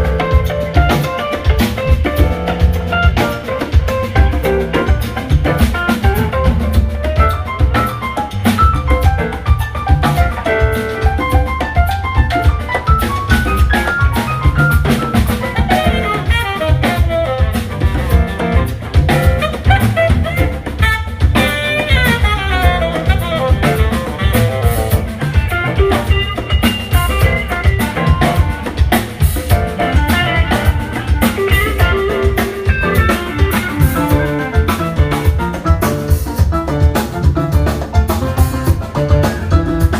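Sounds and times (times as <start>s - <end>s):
drum kit beat: 0.0s - 39.9s
live band playing: 0.0s - 39.9s.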